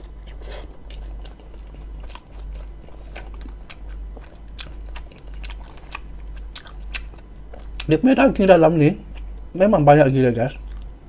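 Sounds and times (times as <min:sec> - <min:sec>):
chewing soft bread roll: 0:00.0 - 0:09.6, 0:10.4 - 0:11.0.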